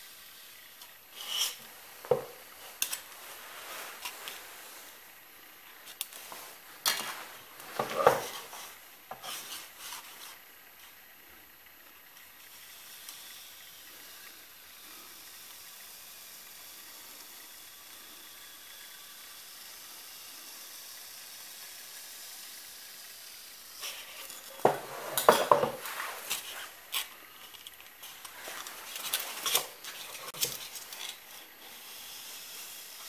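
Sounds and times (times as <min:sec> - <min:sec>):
hot wire sizzling through foam: 0:00.0 - 0:10.9, 0:12.5 - 0:33.0.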